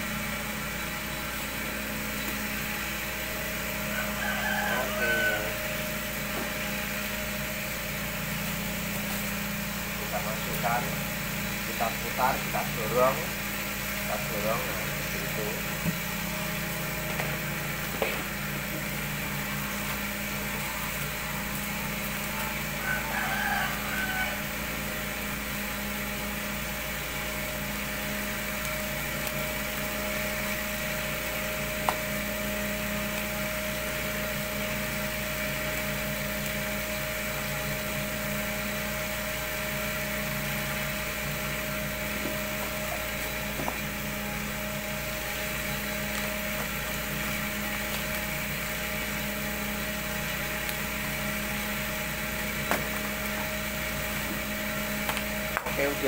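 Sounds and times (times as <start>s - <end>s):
gas burner hissing: 0.0s - 56.0s
motor hum: 0.0s - 56.0s.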